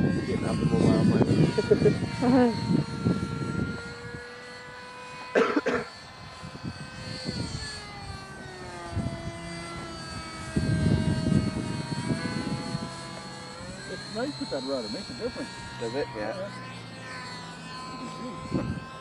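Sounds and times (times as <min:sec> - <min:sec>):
model jet fan whine: 0:00.0 - 0:19.0.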